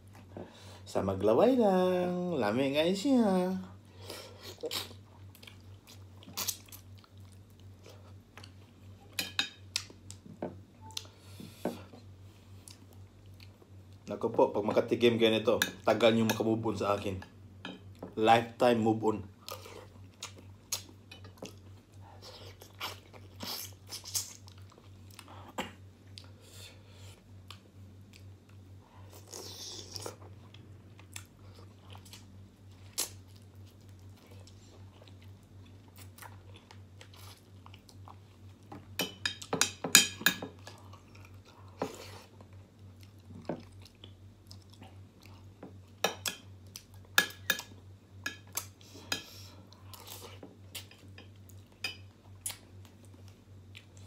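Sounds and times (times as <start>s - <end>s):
person chewing food: 4.2s - 14.0s, 19.4s - 39.8s, 40.4s - 54.0s.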